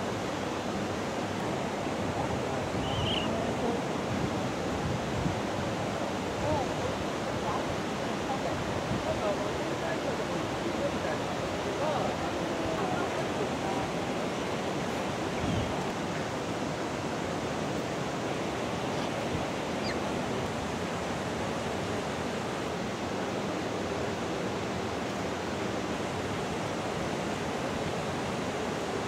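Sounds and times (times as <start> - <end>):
rushing water: 0.0 - 29.0.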